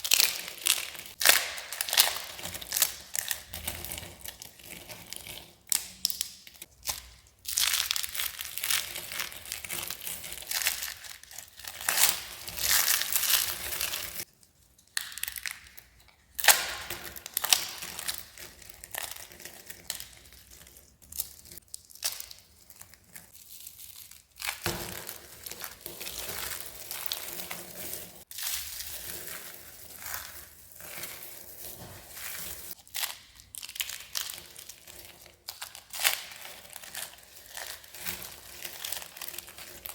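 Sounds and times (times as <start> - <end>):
dry soap crunching: 0.0 - 39.9.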